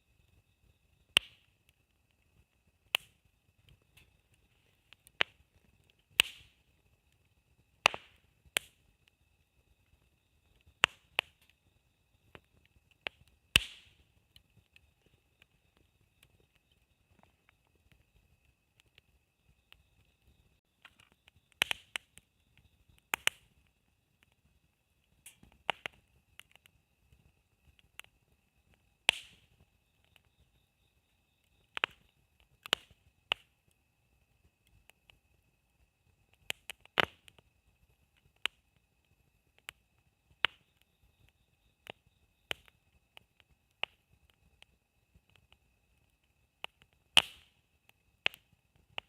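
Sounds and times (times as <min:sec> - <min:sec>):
campfire crackling and popping: 0:00.0 - 0:49.0.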